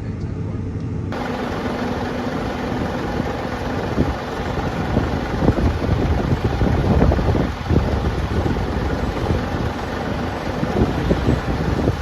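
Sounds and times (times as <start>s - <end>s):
farm machinery rumble: 1.1s - 12.0s
wind buffeting microphone: 1.1s - 12.0s.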